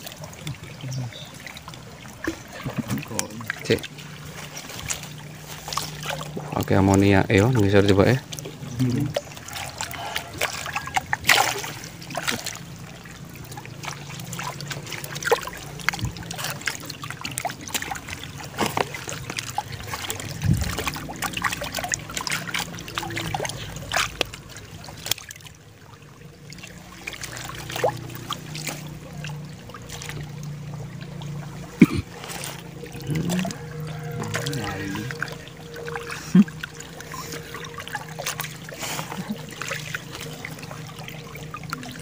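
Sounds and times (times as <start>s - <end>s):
pond water splashing: 0.0s - 42.0s.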